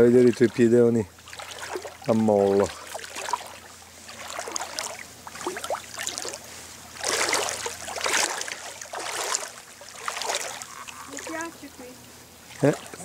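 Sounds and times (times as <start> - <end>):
feet wading through water: 0.0 - 13.0.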